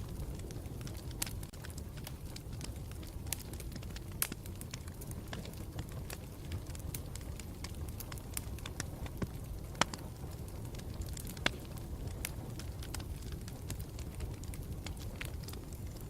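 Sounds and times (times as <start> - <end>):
burning wood rumble: 0.0 - 16.0
campfire pops and snaps: 0.0 - 16.0.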